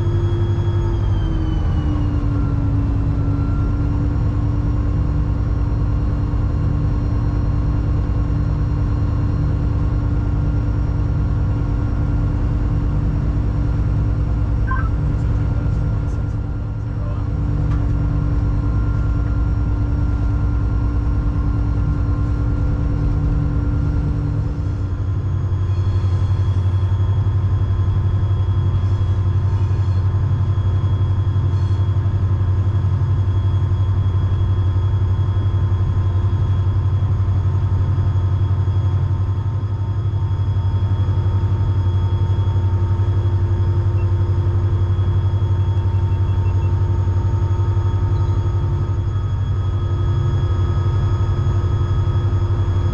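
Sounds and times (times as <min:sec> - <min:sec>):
diesel locomotive engine rumbling: 0:00.0 - 0:52.9.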